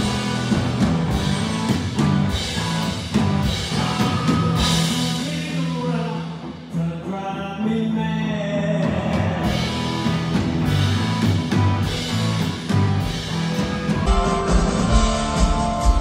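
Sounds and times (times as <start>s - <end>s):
rock music with singer: 0.0s - 16.0s.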